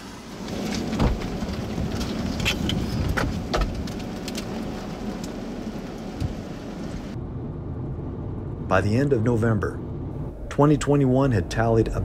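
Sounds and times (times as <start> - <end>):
vehicle rumble: 0.0 - 12.0
wind: 0.0 - 12.0.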